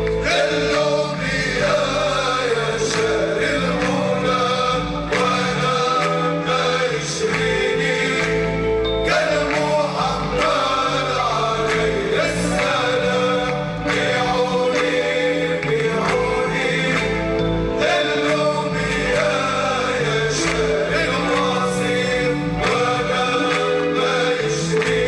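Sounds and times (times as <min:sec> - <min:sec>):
lead voice singing: 0:00.0 - 0:25.0
male chorus chanting: 0:00.0 - 0:25.0.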